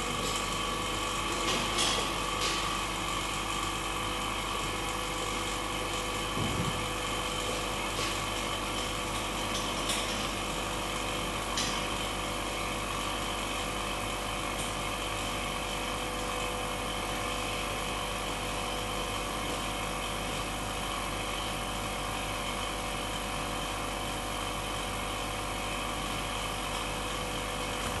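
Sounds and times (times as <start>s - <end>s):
vacuum pump humming: 0.0s - 28.0s.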